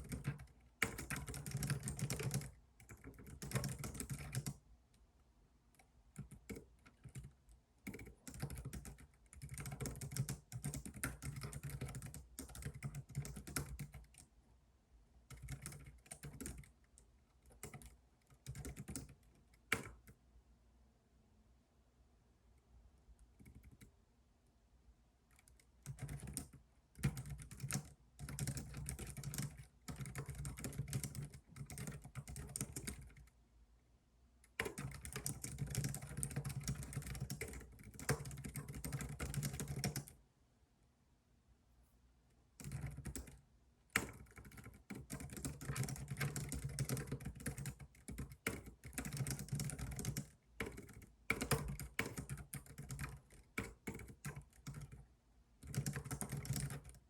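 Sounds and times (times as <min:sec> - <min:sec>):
computer keyboard typing: 0:00.0 - 0:04.6, 0:05.8 - 0:14.3, 0:15.3 - 0:20.2, 0:23.4 - 0:23.9, 0:25.3 - 0:33.3, 0:34.4 - 0:40.2, 0:42.6 - 0:57.0.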